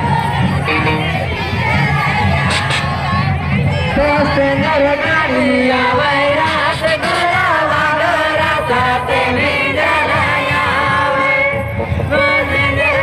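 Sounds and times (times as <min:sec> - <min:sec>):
voices singing folk song: 0:00.0 - 0:13.0.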